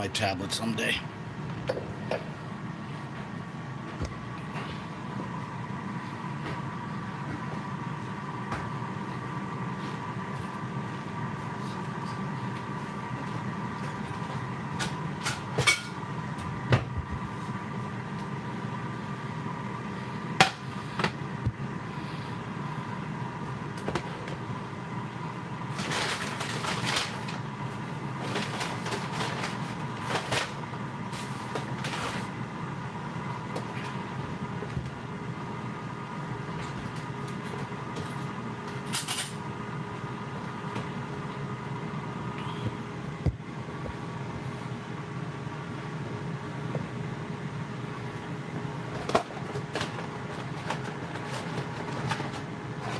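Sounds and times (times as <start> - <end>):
air fryer humming: 0.0 - 52.9.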